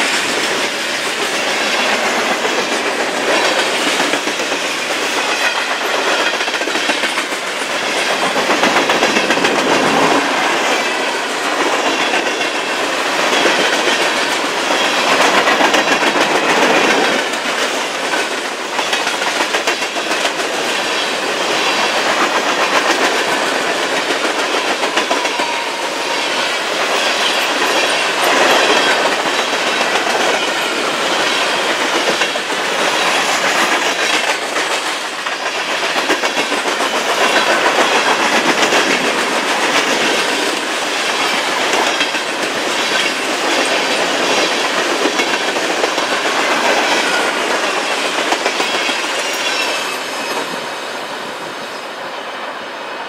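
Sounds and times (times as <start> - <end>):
train wheels clacking on rail joints: 0.0 - 51.5
train rolling rumble: 0.0 - 53.0.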